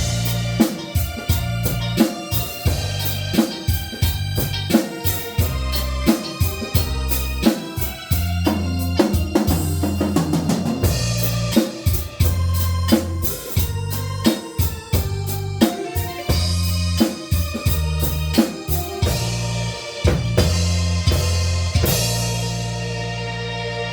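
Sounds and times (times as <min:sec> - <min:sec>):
drum kit beat: 0:00.0 - 0:23.5
bass line: 0:00.0 - 0:23.9
keyboard playing organ-like chords: 0:00.0 - 0:23.9.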